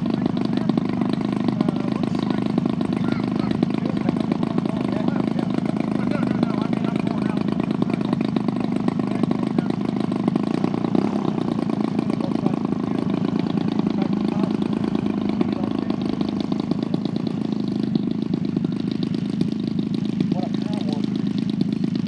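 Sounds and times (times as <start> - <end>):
model plane engine running: 0.0 - 22.0.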